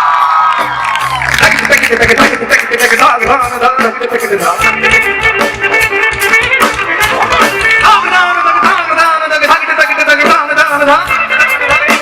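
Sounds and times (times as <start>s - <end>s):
live band playing instrumental: 0.0s - 12.0s
steady drum beat: 0.0s - 12.0s.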